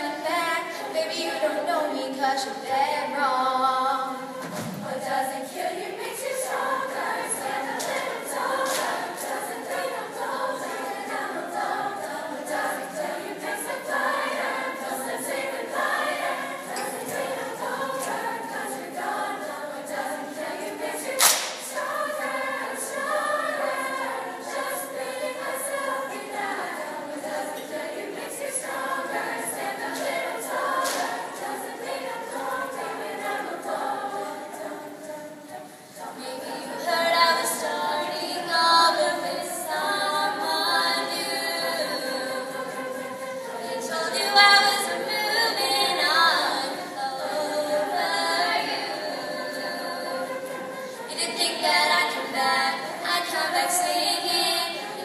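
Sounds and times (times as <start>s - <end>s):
choir of young voices singing: 0.0s - 55.0s.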